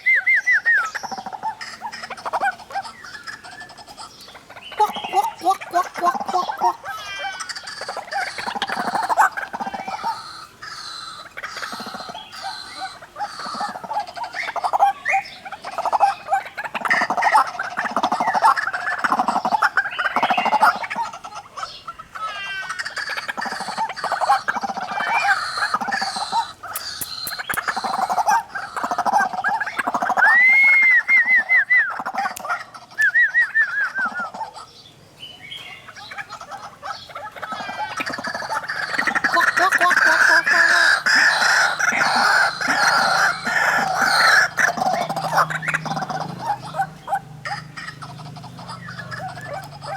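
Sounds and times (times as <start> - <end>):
waterhens calling: 0.0 - 49.9.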